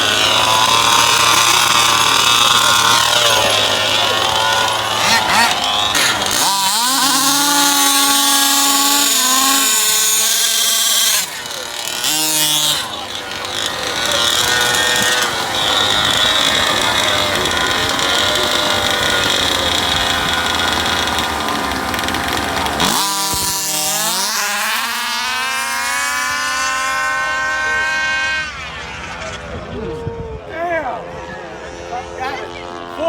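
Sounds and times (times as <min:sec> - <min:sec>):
small two-stroke engine revving: 0:00.0 - 0:33.0.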